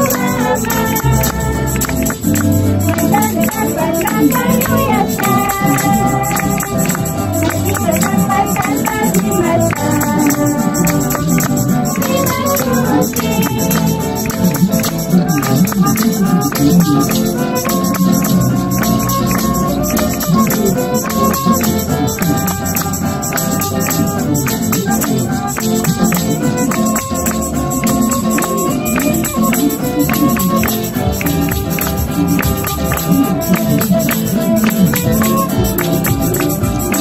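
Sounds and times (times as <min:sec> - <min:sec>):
acoustic guitars: 0:00.0 - 0:37.0
shaken rattle percussion: 0:00.0 - 0:37.0
violins playing held notes: 0:00.0 - 0:37.0.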